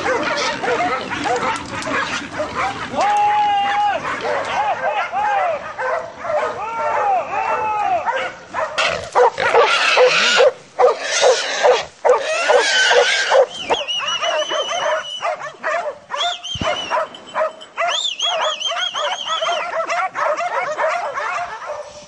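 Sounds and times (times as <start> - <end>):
dogs barking and yelping: 0.0 - 22.0.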